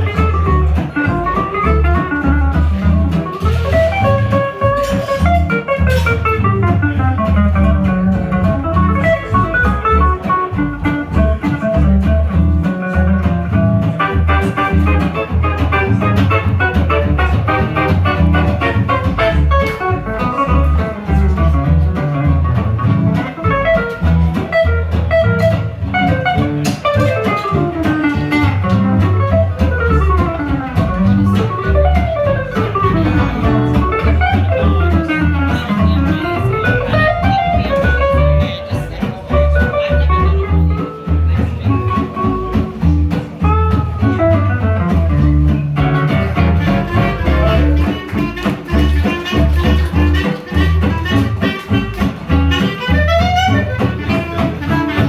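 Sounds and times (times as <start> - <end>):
bass pulse: 0.0 - 55.0
swing jazz band playing: 0.0 - 55.0.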